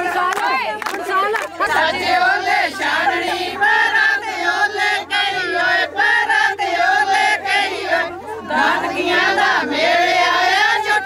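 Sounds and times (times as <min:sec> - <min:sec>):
women singing in chorus: 0:00.0 - 0:11.0.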